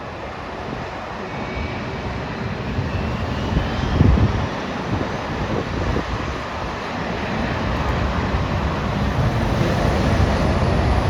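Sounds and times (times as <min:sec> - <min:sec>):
jet engine rumble and roar: 0:00.0 - 0:11.0.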